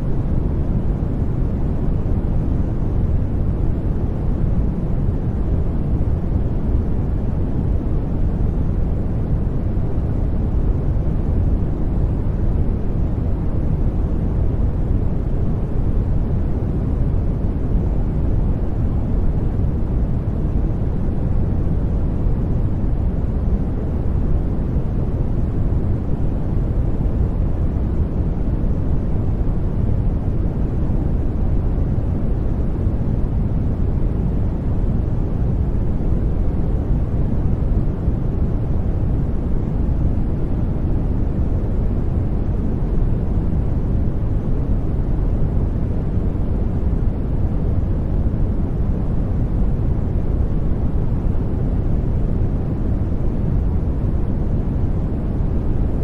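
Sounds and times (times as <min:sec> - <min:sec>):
low steady hiss: 0:00.0 - 0:56.0.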